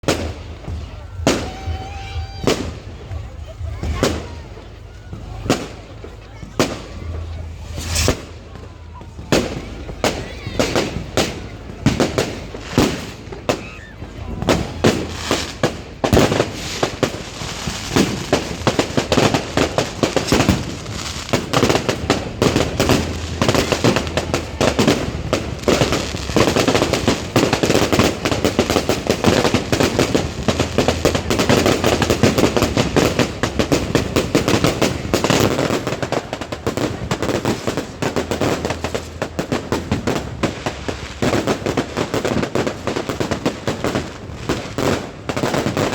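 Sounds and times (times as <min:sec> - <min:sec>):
fireworks cracking and banging: 0:00.0 - 0:45.9.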